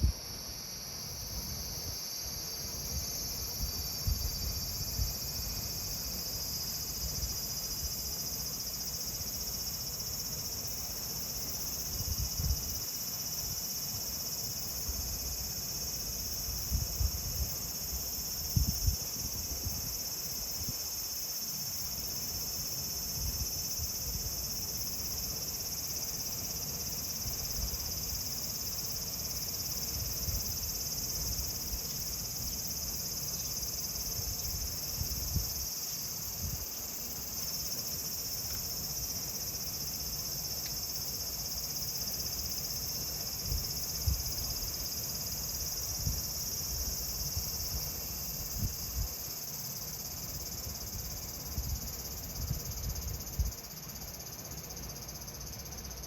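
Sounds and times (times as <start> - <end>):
cicadas singing: 0.0 - 56.0.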